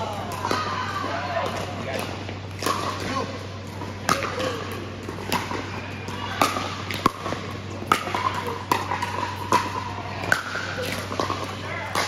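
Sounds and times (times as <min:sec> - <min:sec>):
paddles hitting plastic ball: 0:00.2 - 0:12.0.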